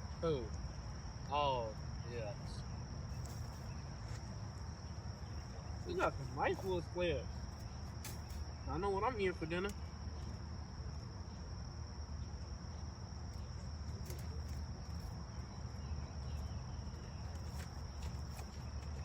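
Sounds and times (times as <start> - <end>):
insects trilling: 0.0 - 19.0
low constant rumble: 0.0 - 19.0.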